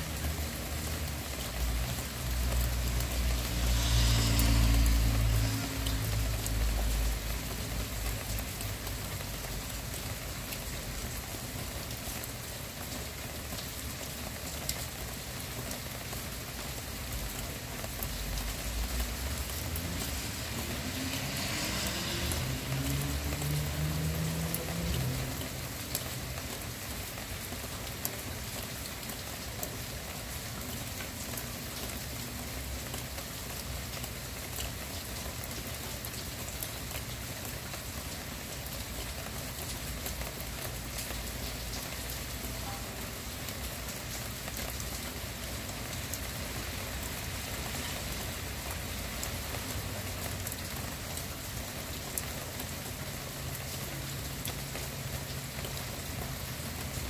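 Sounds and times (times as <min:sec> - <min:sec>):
rain drop ticks: 0:00.0 - 0:57.0
steady rain hiss: 0:00.0 - 0:57.0.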